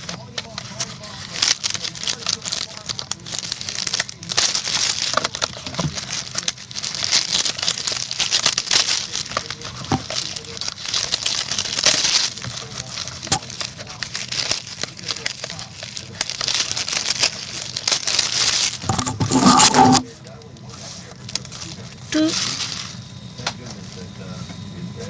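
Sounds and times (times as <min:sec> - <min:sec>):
plastic wrap crinkling and tearing: 0:00.0 - 0:23.0.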